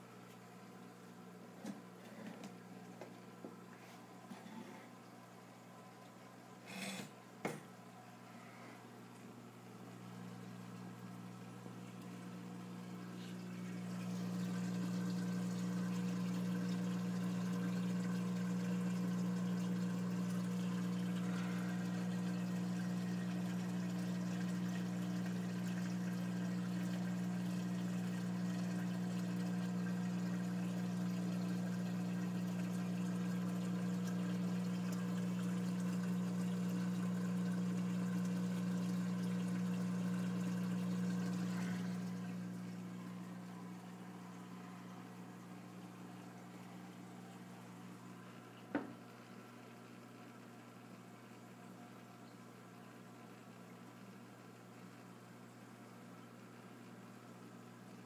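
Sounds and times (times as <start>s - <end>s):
electric pump hum: 0.0s - 58.0s
water running through pipes: 0.0s - 58.0s.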